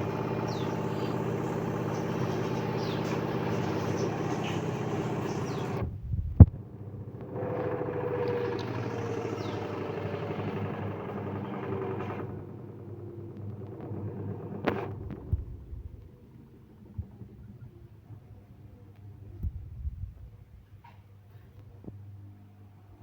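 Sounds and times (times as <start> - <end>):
washing machine motor hum: 0.0 - 19.6.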